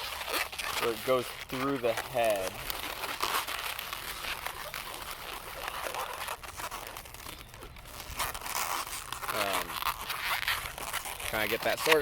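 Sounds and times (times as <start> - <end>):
rubber balloon squeaking and rubbing: 0.0 - 12.0.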